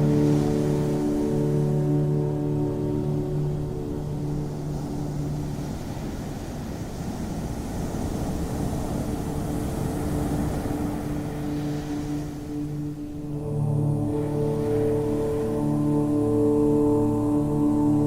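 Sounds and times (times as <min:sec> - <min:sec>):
low droning relaxation music: 0:00.0 - 0:18.0
ocean waves washing in: 0:00.0 - 0:18.0.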